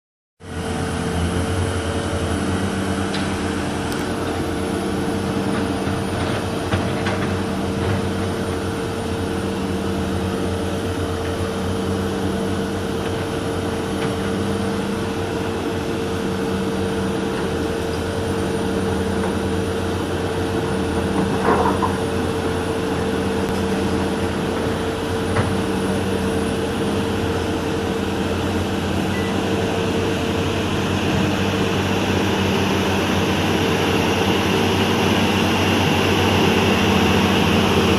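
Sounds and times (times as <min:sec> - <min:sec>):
drilling rig whine and hum: 0:00.4 - 0:37.9.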